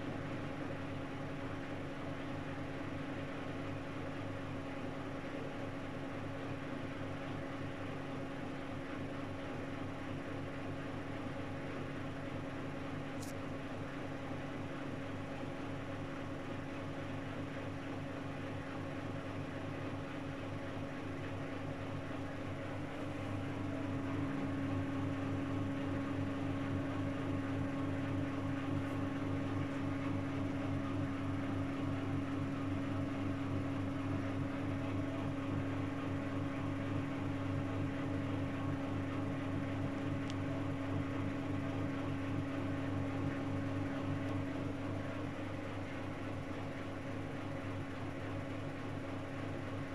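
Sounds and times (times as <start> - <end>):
washing machine motor hum: 0.0 - 49.9.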